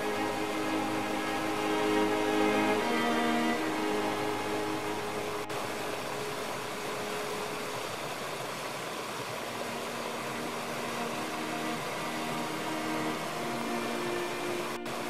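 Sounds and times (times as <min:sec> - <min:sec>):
soft relaxation music: 0:00.0 - 0:15.0
stream rushing over rocks: 0:00.0 - 0:15.0.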